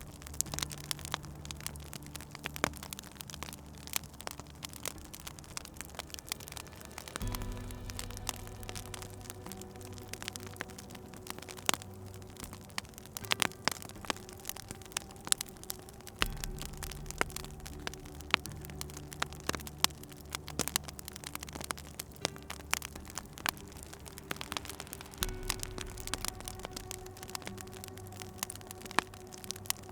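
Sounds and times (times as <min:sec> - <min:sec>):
soft low drone: 0:00.0 - 0:29.9
wood fire crackling: 0:00.0 - 0:29.9.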